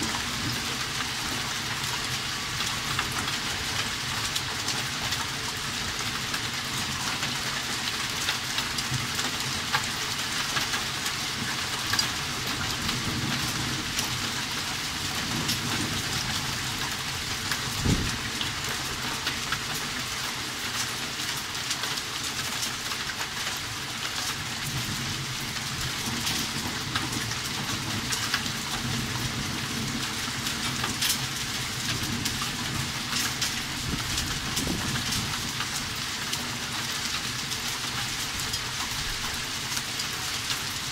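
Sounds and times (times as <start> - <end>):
heavy rain and hail: 0.0 - 40.9.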